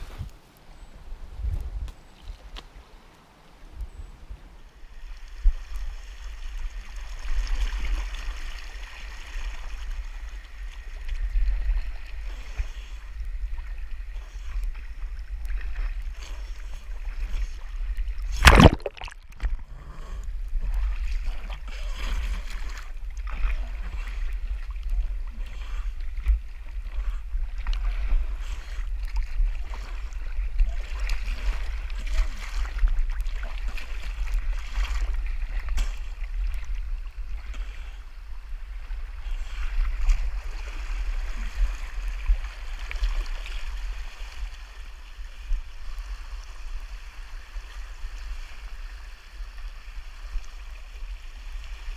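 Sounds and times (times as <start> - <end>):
creek water lapping: 0.0 - 51.9.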